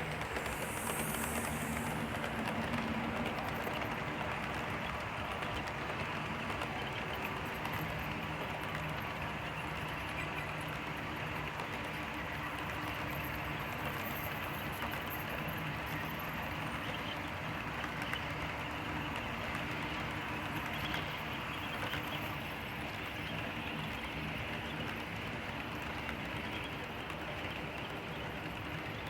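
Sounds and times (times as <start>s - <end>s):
model train wheels and motors rumbling: 0.0s - 29.0s.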